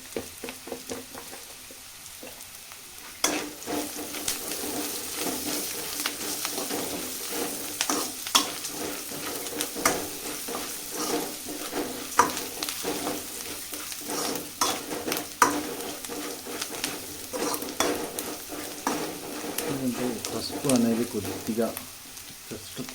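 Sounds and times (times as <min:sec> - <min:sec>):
food sizzling in a pan: 0:00.0 - 0:22.9.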